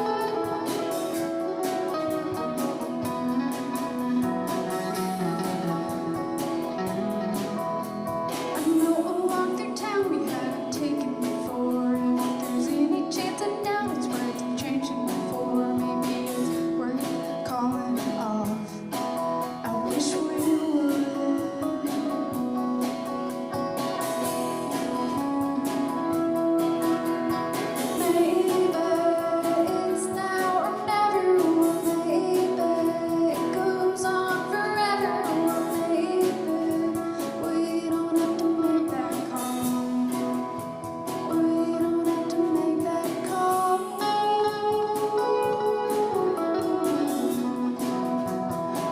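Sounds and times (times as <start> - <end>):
woman singing: 0.0 - 23.4, 24.3 - 48.9
guitar accompaniment: 0.0 - 48.9.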